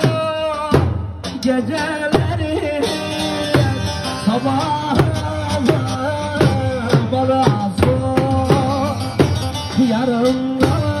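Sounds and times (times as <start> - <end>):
instrumental backing melody: 0.0 - 11.0
man singing: 0.0 - 11.0
steady drum beat: 0.0 - 11.0.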